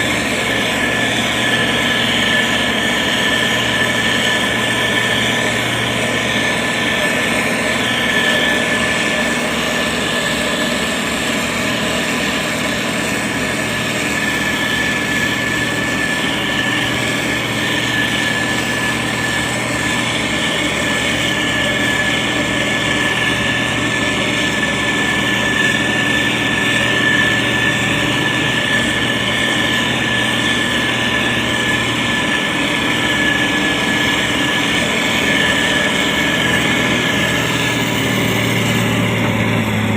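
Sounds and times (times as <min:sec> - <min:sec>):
heavy machinery diesel engine: 0:00.0 - 0:39.9
steady high whine: 0:00.0 - 0:39.9.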